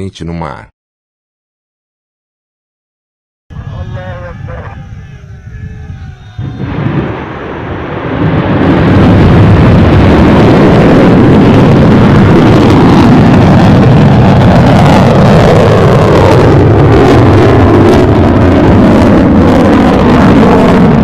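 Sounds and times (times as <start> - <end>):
rocket motor roaring: 3.5 - 21.0.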